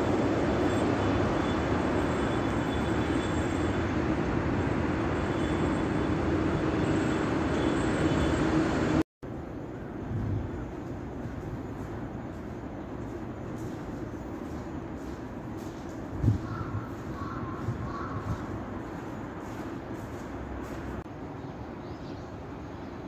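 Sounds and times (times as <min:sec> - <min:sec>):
city background rumble: 0:00.0 - 0:23.0
open-air ambience: 0:00.0 - 0:23.0.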